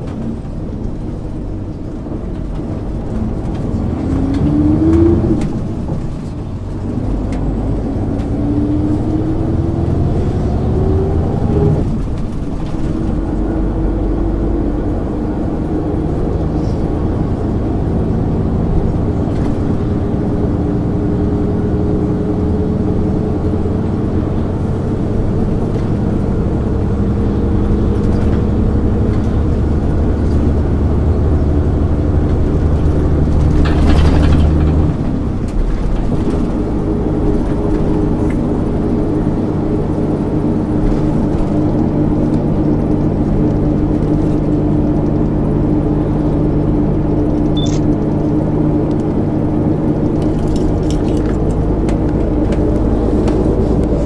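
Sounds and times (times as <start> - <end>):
bus diesel engine pulling away: 0.0 - 54.0.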